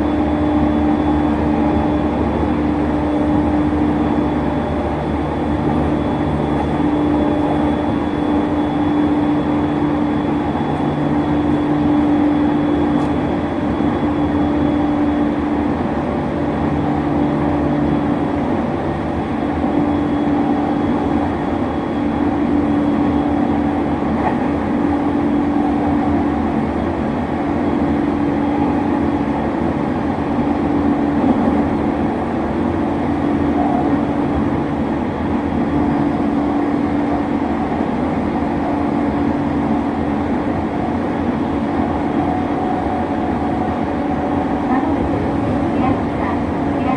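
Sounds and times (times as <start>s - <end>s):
low hum of running gear: 0.0s - 46.9s
wheels rumbling on rail: 0.0s - 46.9s.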